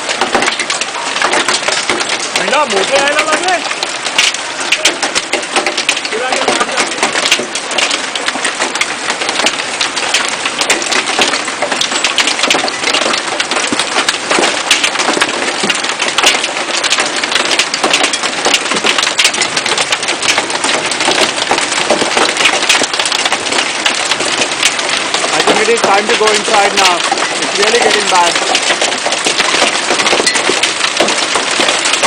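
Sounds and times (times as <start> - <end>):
hailstones clattering: 0.0 - 32.0
heavy rain hissing: 1.9 - 10.6, 13.1 - 32.0.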